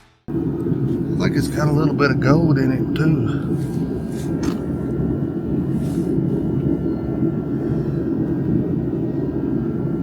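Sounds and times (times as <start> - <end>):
low engine rumble: 0.3 - 10.0.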